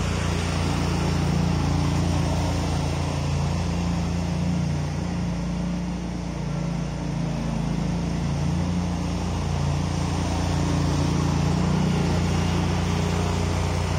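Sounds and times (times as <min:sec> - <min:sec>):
harvester engine low hum: 0:00.0 - 0:13.9.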